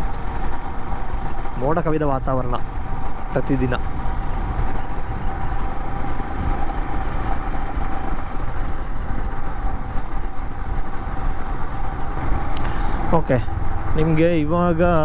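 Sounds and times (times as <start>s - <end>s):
motorcycle engine running: 0.0s - 14.9s
wind and road noise: 0.0s - 15.0s.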